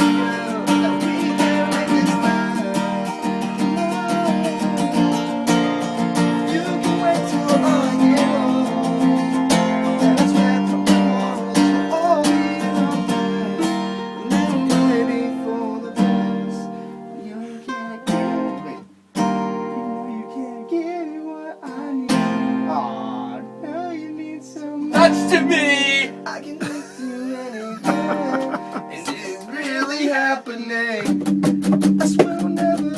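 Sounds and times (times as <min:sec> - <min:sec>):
person singing: 0:00.0 - 0:18.9, 0:19.6 - 0:32.9
acoustic guitar strumming chords: 0:00.0 - 0:32.9.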